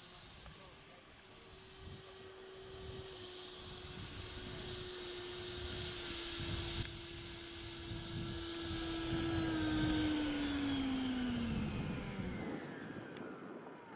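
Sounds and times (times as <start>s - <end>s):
electric ducted fan whining: 0.0s - 13.9s.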